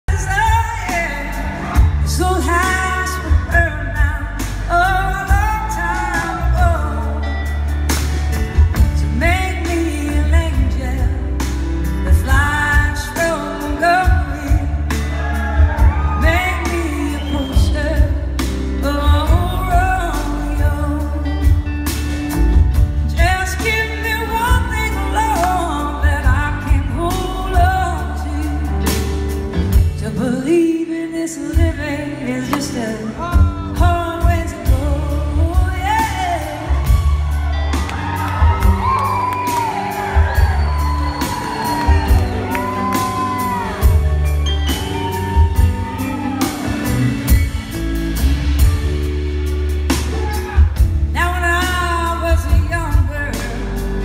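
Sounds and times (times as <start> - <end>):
gliding lead guitar melody: 0.1 - 54.0
live band playing slow rock song: 0.1 - 54.0.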